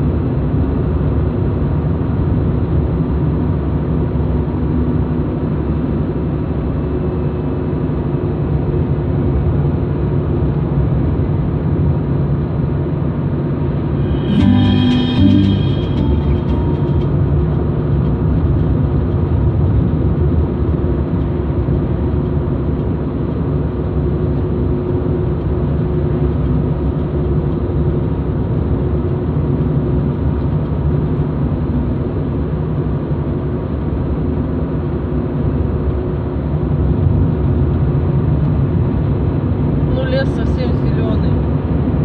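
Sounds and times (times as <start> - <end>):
car engine and tyre drone: 0.0 - 40.1.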